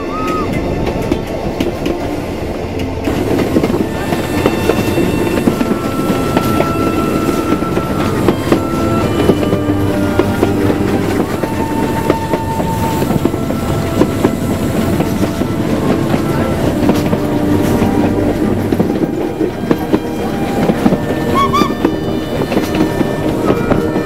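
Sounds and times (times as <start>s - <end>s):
train running on rails: 0.0s - 24.0s
wheels clicking over rail joints: 0.0s - 24.0s.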